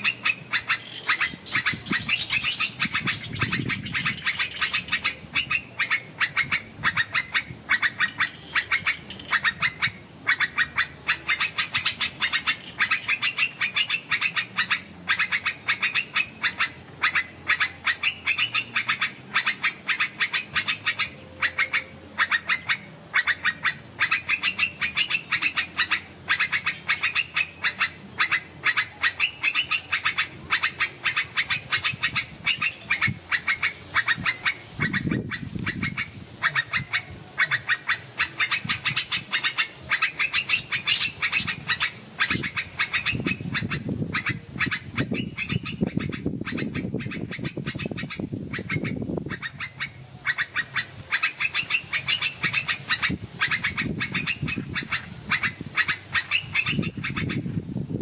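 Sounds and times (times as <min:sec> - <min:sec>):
birds chirping: 0:00.0 - 0:57.6.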